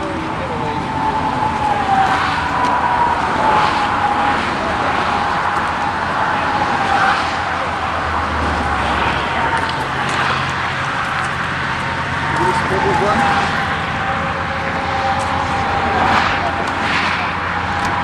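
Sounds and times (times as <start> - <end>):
highway traffic passing: 0.0 - 18.0
thin wavering whine: 0.0 - 18.0.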